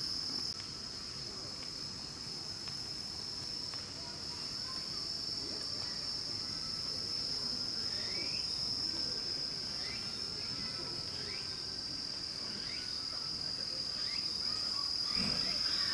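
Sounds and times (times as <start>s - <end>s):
crickets trilling: 0.0s - 15.9s.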